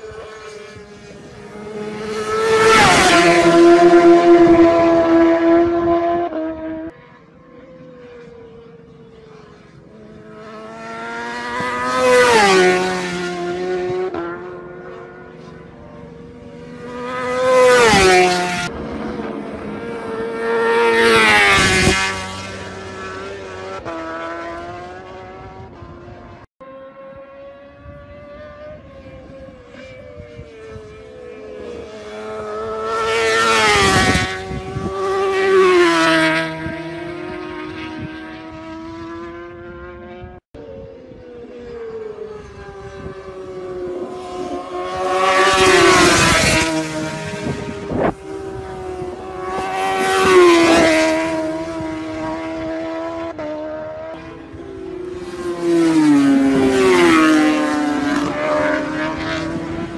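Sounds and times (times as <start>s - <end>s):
racing motorcycles passing: 0.0s - 59.9s.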